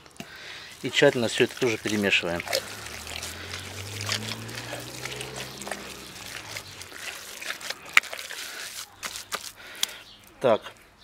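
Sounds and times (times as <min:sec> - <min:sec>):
wet squelching of kneaded meat: 0:00.0 - 0:10.9.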